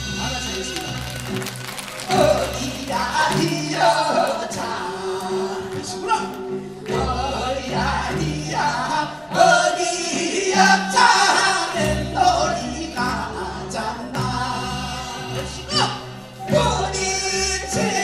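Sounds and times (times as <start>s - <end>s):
group singing folk song: 1.6s - 18.0s.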